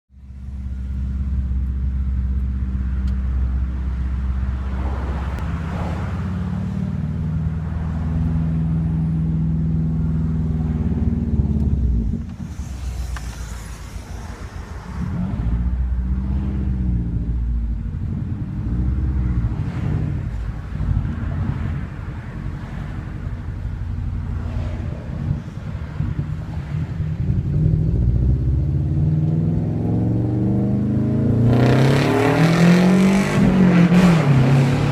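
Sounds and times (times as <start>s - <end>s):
car engine under load: 0.1s - 34.9s.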